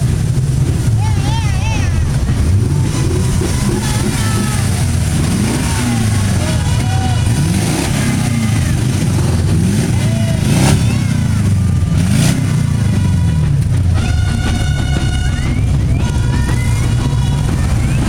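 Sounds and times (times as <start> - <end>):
engines revving: 0.0 - 18.0.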